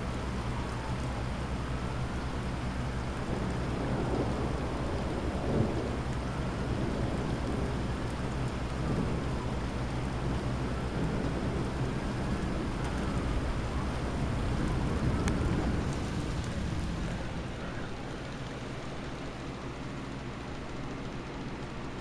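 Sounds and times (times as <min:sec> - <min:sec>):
heavy rain: 0:00.0 - 0:22.0
thunder rumbling: 0:00.4 - 0:19.3.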